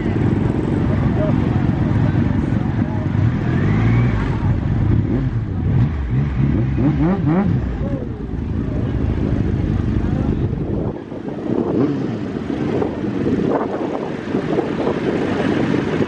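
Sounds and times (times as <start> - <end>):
people chattering: 0.0 - 16.0.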